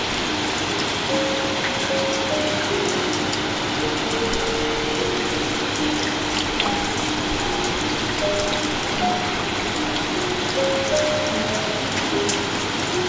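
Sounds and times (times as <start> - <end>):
slow melody of held notes: 0.0 - 13.0
water rushing over rocks: 0.0 - 13.0.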